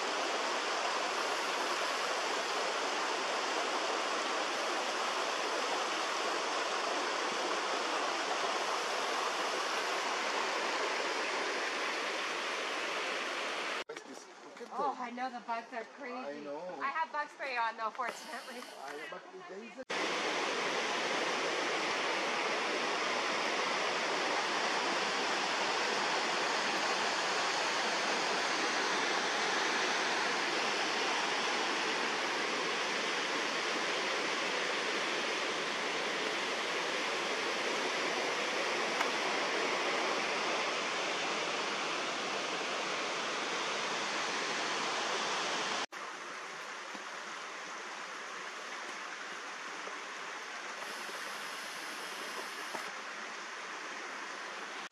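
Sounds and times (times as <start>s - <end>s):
mountain creek rushing: 0.0s - 54.9s.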